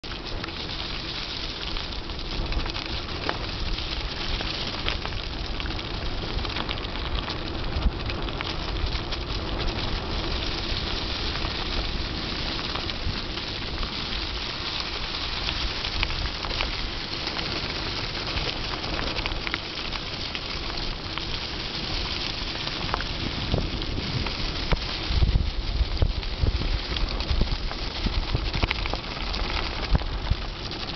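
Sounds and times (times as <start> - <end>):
bike tyres rolling over leaves: 0.0 - 30.9
low rumble from ride: 0.0 - 30.9.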